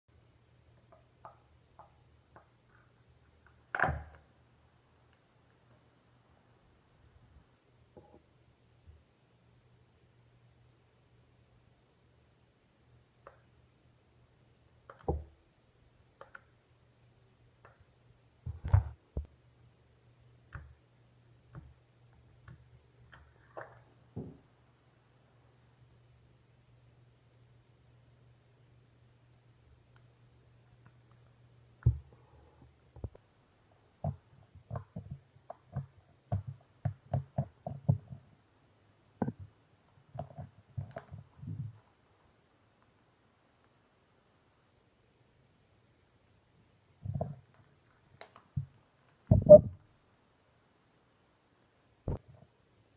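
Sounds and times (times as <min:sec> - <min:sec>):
faint low hum: 0:00.1 - 0:52.9.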